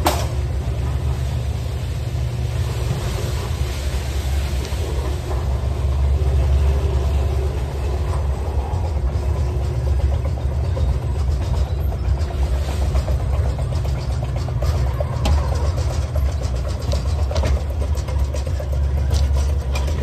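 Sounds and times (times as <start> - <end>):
conveyor drive low rumble: 0.0 - 20.0
shopping cart rattling: 0.0 - 20.0.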